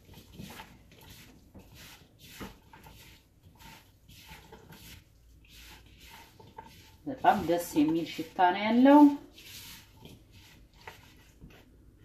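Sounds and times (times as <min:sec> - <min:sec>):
spatulas tossing onion in bowl: 0:00.0 - 0:12.0
wet squishing and scraping: 0:00.0 - 0:12.0.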